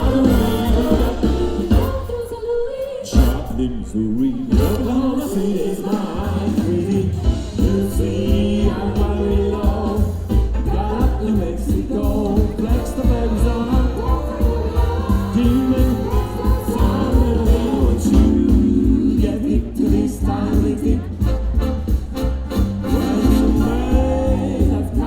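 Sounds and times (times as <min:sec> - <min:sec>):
instrumental accompaniment with bass: 0:00.0 - 0:02.4, 0:03.2 - 0:03.9, 0:04.5 - 0:05.4, 0:06.0 - 0:25.0
vocal group singing: 0:00.0 - 0:25.0.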